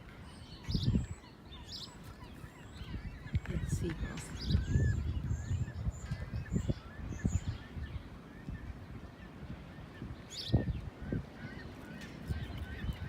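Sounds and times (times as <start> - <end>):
seagulls calling: 0.0 - 13.0
wind rumbling on microphone: 0.0 - 13.0.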